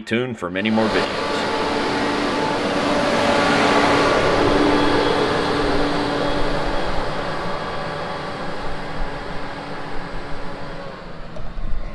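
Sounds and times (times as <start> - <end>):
tractor diesel engine running: 0.6 - 11.9.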